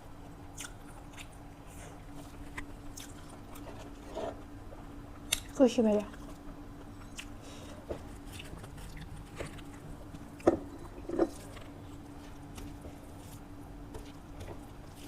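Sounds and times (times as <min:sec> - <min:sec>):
faint steady hum: 0:00.0 - 0:15.0
person chewing food: 0:00.3 - 0:05.5, 0:06.1 - 0:15.0.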